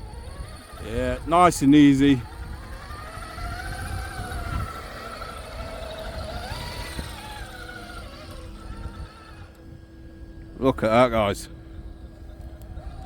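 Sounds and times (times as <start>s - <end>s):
rc car electric motor whining: 0.0s - 13.0s.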